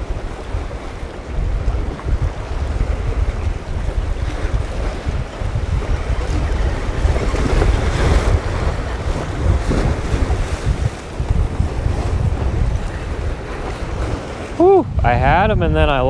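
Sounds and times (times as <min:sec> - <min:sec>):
surf washing against rocks: 0:00.0 - 0:16.0
wave breaking: 0:00.0 - 0:16.0
wind buffeting microphone: 0:00.0 - 0:16.0.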